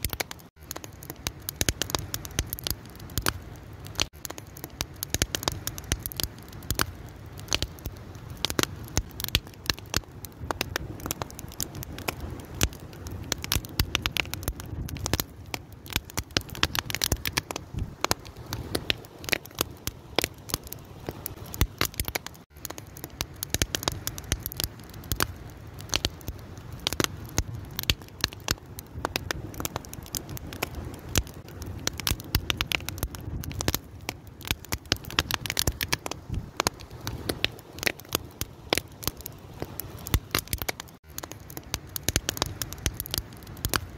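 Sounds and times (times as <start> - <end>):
fire crackling and popping: 0.0 - 43.9
low rumble of flame: 0.0 - 43.9.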